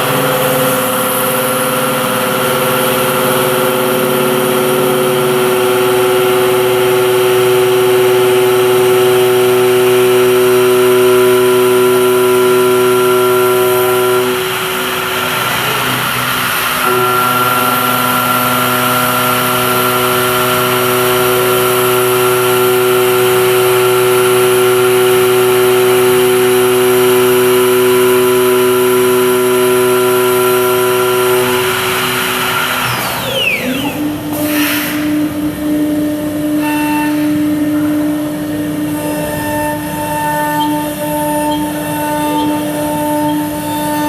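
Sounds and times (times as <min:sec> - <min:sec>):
lower steady whine: 0:00.0 - 0:44.0
woodworking machine spindle whine: 0:00.0 - 0:44.0.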